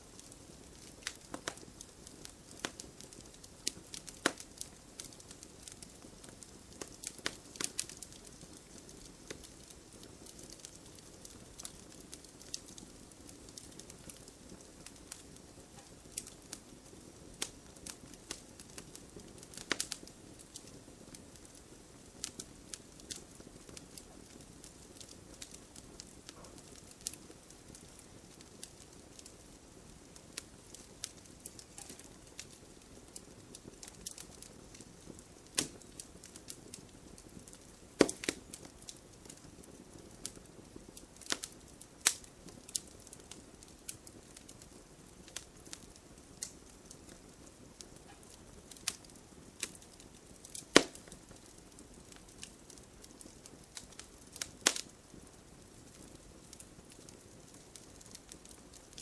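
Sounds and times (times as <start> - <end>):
campfire crackling and popping: 0.0 - 59.0
low hiss of burning: 0.0 - 59.0.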